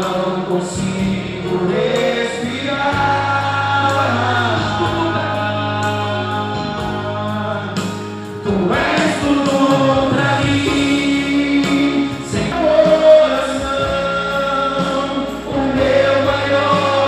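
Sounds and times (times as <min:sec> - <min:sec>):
worship song singing: 0:00.0 - 0:17.0.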